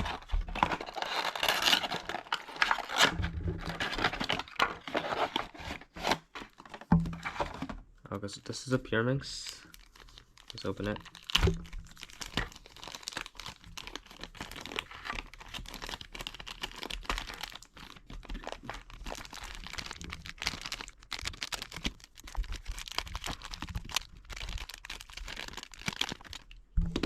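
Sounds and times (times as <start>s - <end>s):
plastic packaging tearing: 0.0s - 7.6s, 9.7s - 26.6s.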